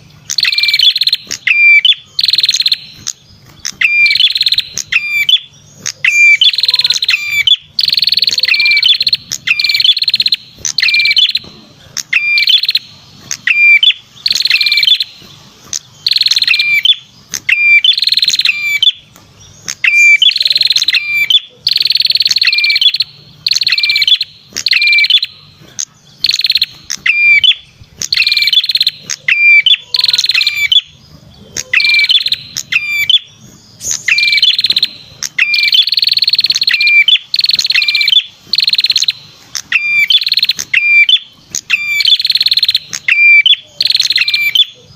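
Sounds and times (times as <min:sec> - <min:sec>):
bird singing buzzy trills: 0:00.0 - 0:44.9
sharp bird chirps: 0:00.0 - 0:44.9.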